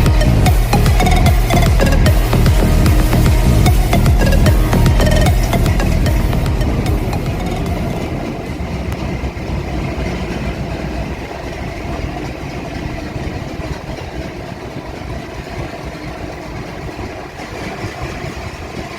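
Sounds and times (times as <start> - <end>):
goods train rumbling past: 0.0 - 18.9.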